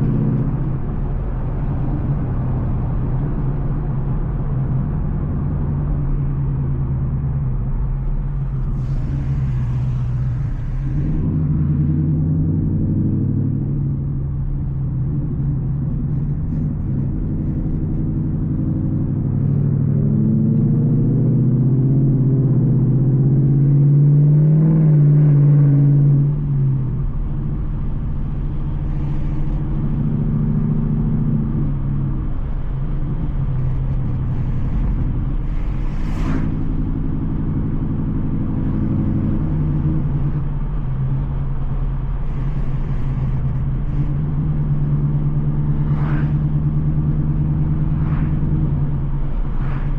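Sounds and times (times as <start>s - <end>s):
car exhaust accelerating: 0.0s - 49.9s.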